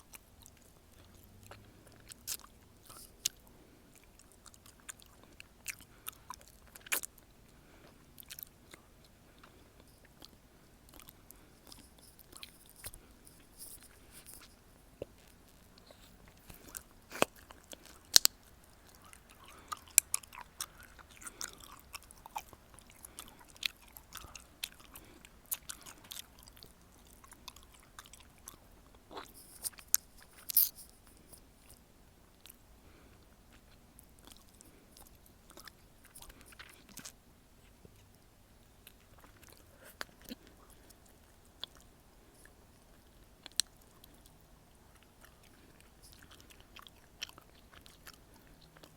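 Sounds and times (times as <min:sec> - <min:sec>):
gum chewing smacks and clicks: 0:00.0 - 0:48.9.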